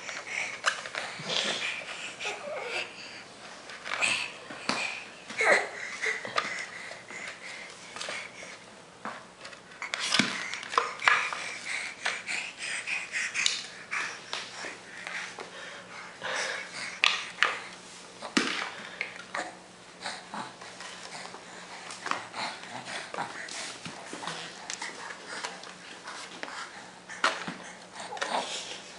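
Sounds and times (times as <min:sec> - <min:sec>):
baby breathing and vocalizing: 0:00.0 - 0:03.3, 0:04.0 - 0:08.6, 0:09.8 - 0:17.7, 0:19.3 - 0:28.9.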